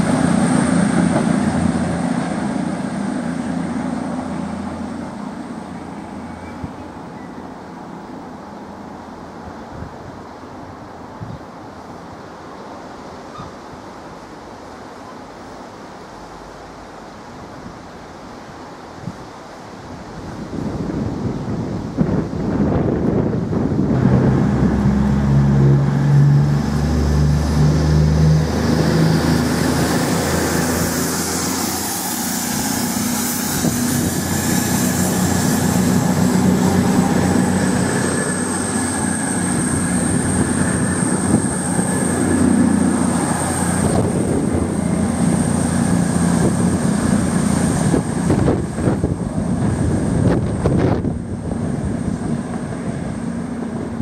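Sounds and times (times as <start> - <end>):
diesel train engines droning: 0.0 - 54.0
wheels rumbling on rails: 0.0 - 54.0.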